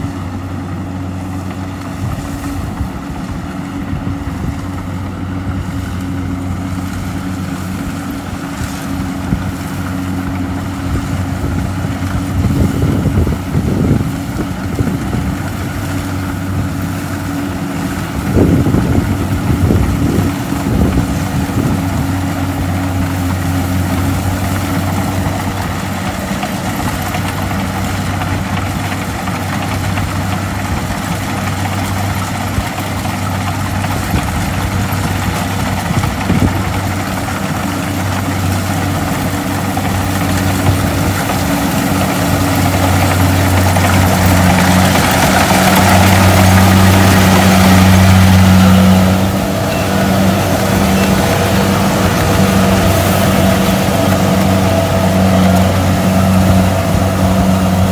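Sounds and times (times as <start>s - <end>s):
combine harvester engine and machinery: 0.0s - 57.9s.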